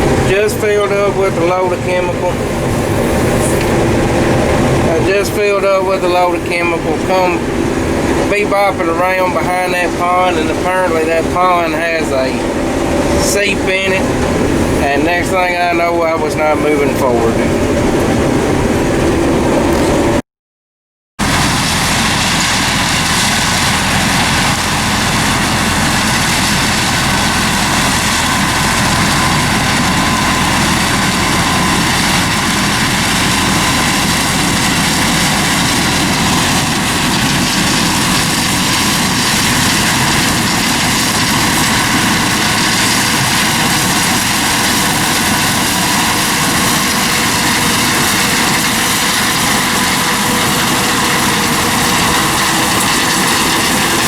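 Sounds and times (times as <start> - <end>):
combine harvester engine drone: 0.0 - 20.2, 21.2 - 54.0
machinery whine: 0.0 - 20.2, 21.2 - 54.0.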